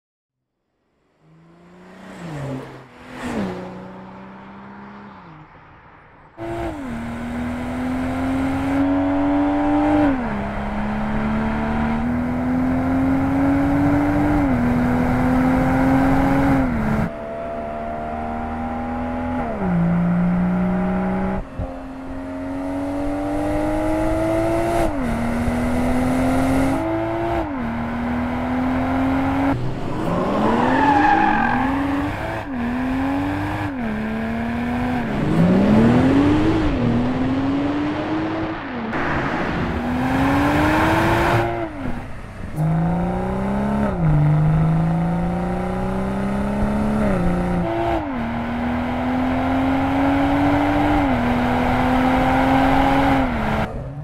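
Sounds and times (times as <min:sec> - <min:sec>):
car engine revving: 0:01.1 - 0:05.5, 0:06.4 - 0:54.0
car engine accelerating through gears: 0:01.2 - 0:05.4, 0:06.4 - 0:54.0.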